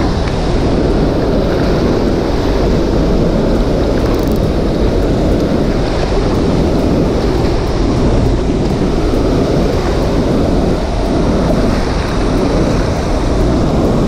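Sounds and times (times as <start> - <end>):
water rushing from dam: 0.0 - 14.0.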